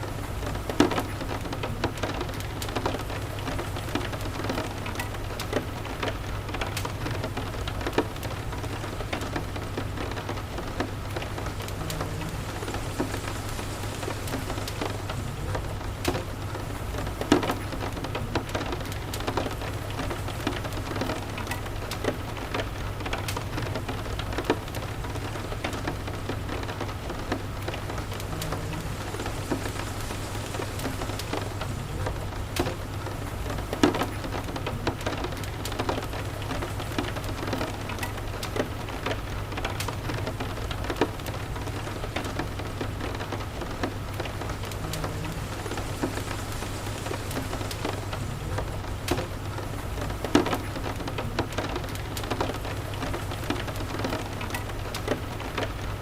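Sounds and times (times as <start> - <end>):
steady rain falling: 0.0 - 56.0
wood fire crackling: 0.0 - 56.0.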